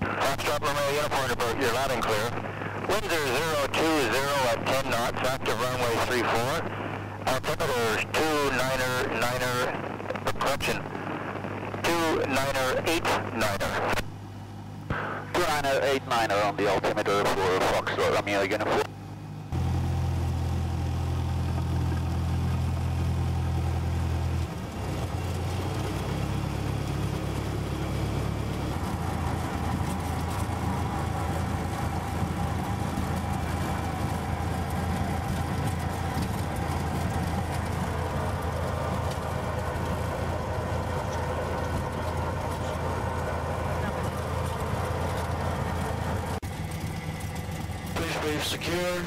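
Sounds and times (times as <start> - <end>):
propeller aircraft engine droning: 0.0 - 49.0.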